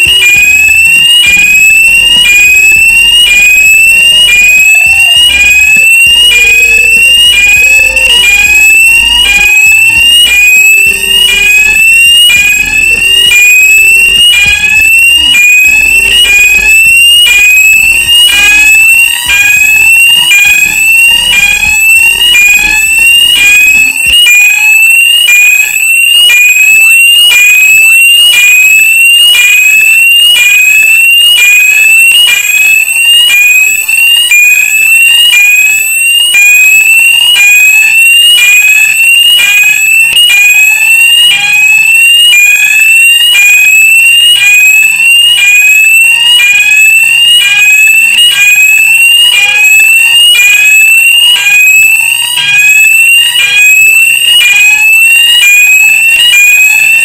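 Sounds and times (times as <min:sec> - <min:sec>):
fire alarm rising sweep tone: 0:00.0 - 0:57.0.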